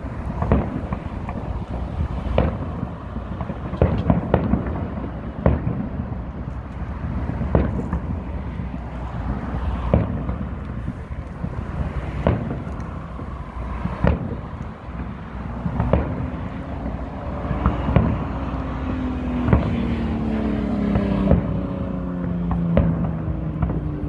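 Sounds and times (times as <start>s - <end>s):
fireworks bursting with booms: 0.0s - 24.0s.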